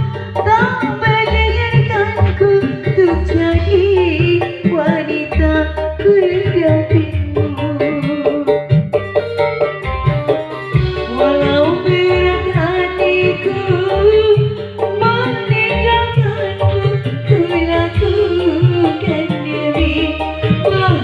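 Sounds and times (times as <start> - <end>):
person singing a melody: 0.0 - 8.7, 10.9 - 21.0
hand drum and bass beat: 0.0 - 21.0.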